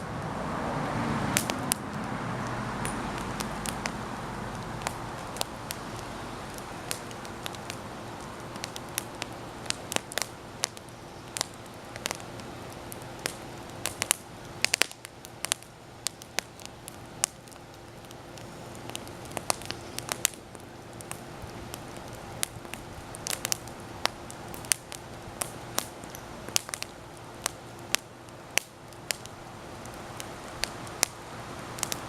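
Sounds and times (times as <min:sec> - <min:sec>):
campfire crackling and popping: 0:00.0 - 0:32.0
steady low hiss: 0:00.0 - 0:32.0.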